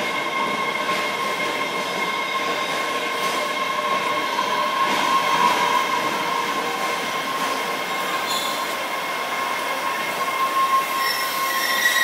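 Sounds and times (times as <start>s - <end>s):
high even train whine: 0.0s - 12.0s
subway train rumbling: 0.0s - 12.0s.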